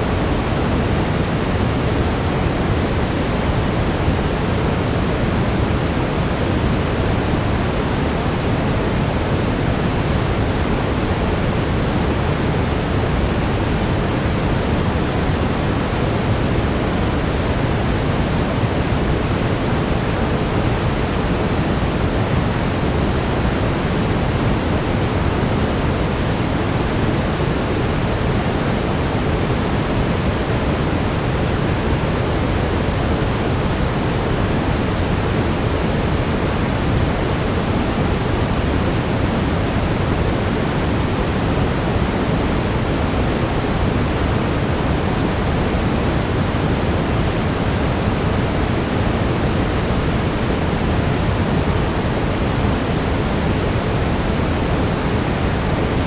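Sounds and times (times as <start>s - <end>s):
brown noise: 0.0s - 56.0s.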